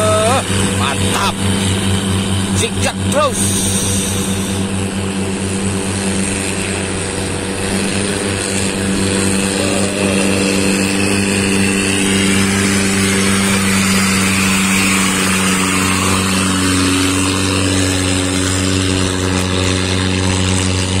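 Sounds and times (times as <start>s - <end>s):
boat engine humming: 0.0s - 21.0s
speedboat outboard engine passing: 0.0s - 21.0s.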